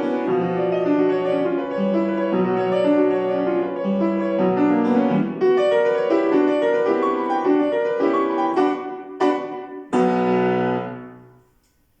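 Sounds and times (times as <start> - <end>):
piano music: 0.0 - 11.5.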